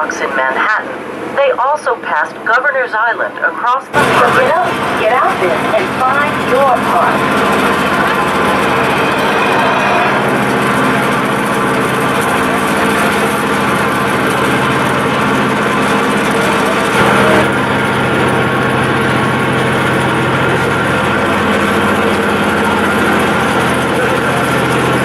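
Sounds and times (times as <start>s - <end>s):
ferry engine drone: 0.0s - 25.0s.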